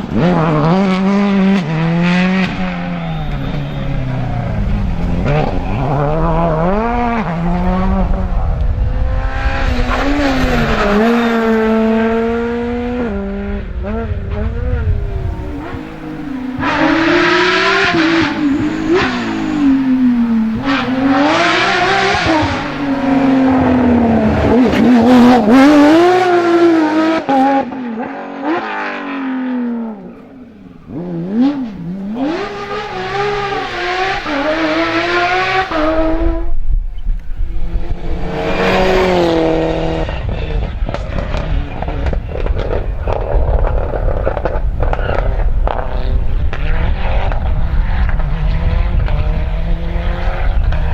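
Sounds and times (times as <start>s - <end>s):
rally car engines revving: 0.0s - 50.9s.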